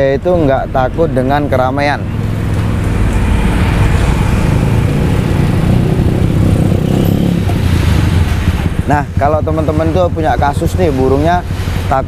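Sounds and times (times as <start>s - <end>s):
motorcycles and cars passing: 0.0s - 12.0s.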